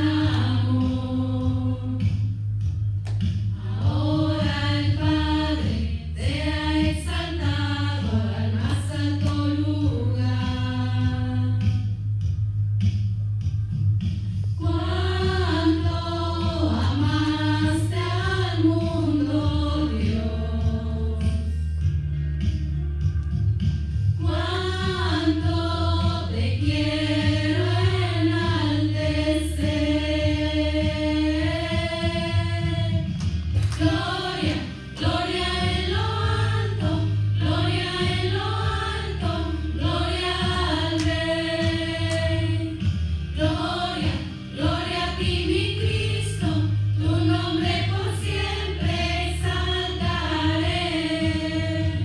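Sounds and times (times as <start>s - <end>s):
women singing together: 0.0s - 2.3s, 3.6s - 11.9s, 14.6s - 21.5s, 24.2s - 52.0s
steady low accompaniment: 0.0s - 52.0s.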